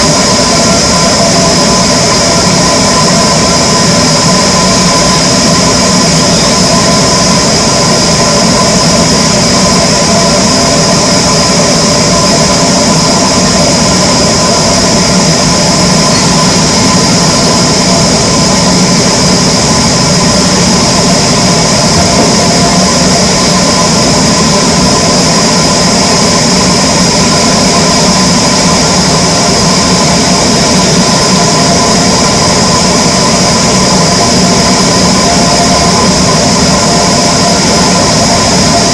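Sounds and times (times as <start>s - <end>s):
power saw humming and whining: 0.0s - 38.9s.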